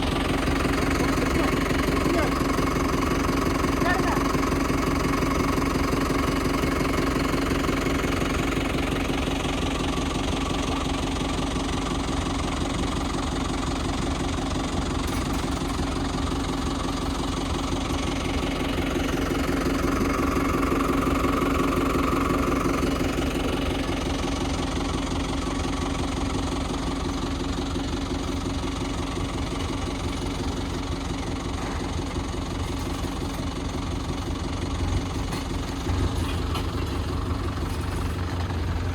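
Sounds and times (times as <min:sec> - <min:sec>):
tractor diesel engine clattering: 0:00.0 - 0:38.9.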